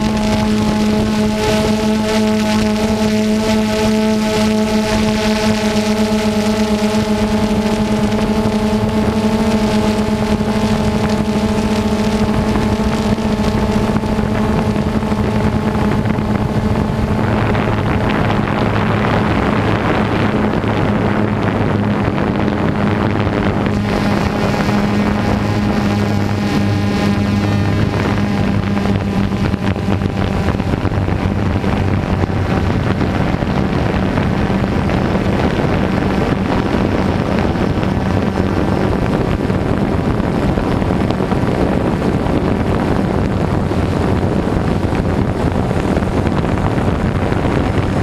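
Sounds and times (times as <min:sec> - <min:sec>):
quadcopter propellers humming: 0:00.0 - 0:48.0
wind noise on microphone: 0:00.0 - 0:48.0.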